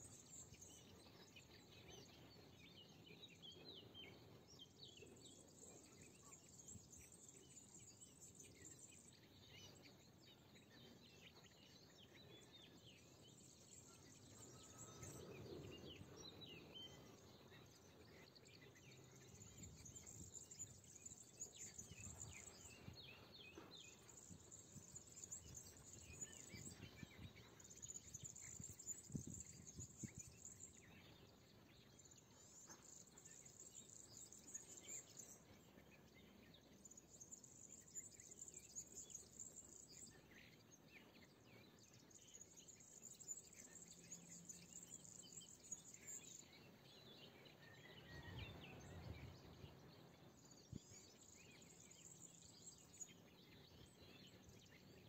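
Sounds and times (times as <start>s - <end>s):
small songbirds chirping: 0.0s - 55.0s.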